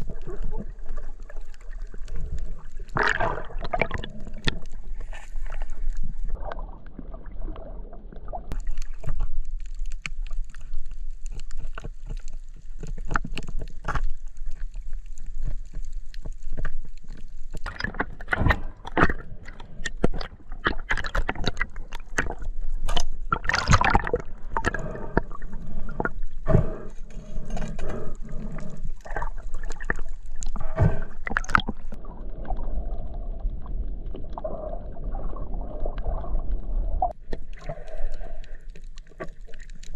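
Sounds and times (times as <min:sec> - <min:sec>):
underwater sloshing and gurgling: 0:00.0 - 0:39.9.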